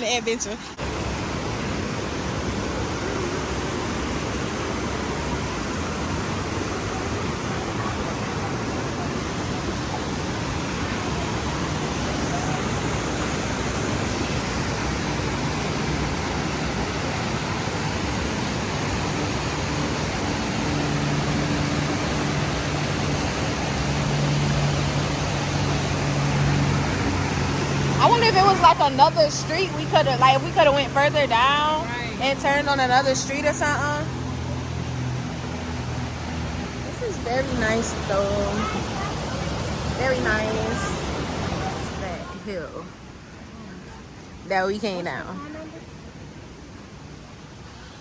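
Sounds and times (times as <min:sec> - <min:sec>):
low steady hum: 0:00.0 - 0:48.0
water rushing: 0:00.0 - 0:48.0.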